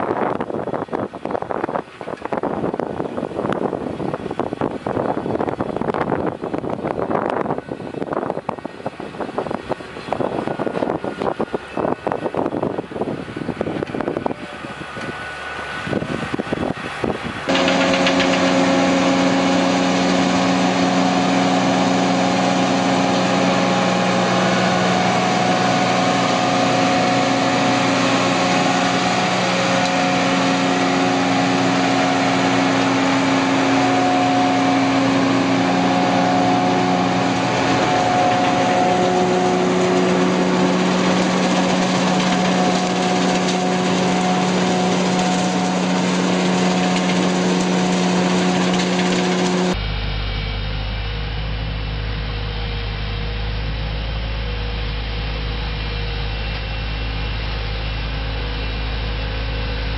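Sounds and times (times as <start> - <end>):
harvester engine and machinery: 0.0 - 59.9
rough field machinery noise: 0.0 - 59.9.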